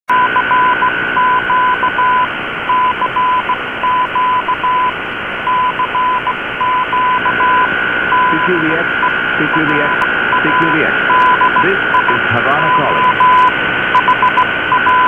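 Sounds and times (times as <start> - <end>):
morse code beeps: 0.1 - 4.9, 5.5 - 15.0.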